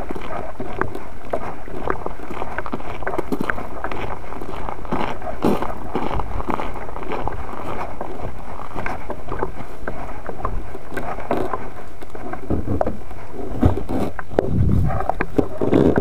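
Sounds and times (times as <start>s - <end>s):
microphone rubbing and rumbling: 0.0s - 16.0s
wind: 0.0s - 16.0s.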